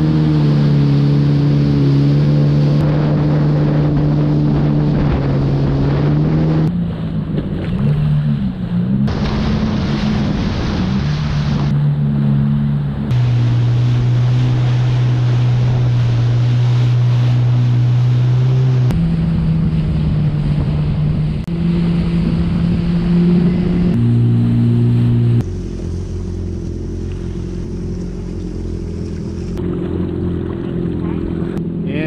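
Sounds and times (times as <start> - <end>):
watercraft engine running: 0.0 - 32.0.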